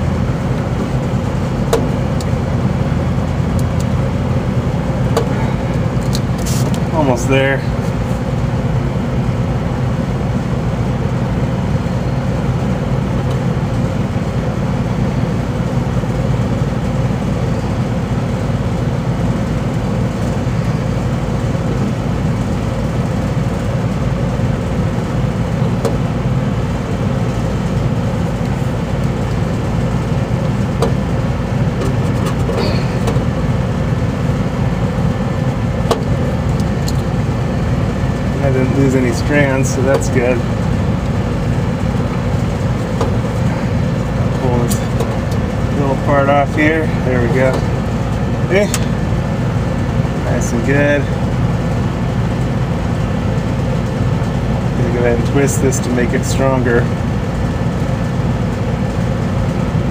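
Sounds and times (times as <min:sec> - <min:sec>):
air-conditioning equipment humming: 0:00.0 - 0:59.9.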